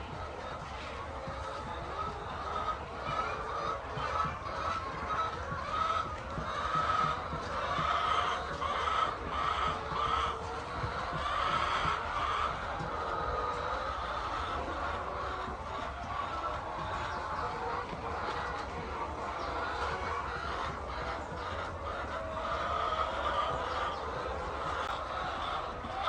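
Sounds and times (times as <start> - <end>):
flock of poultry calling: 0.0 - 26.0.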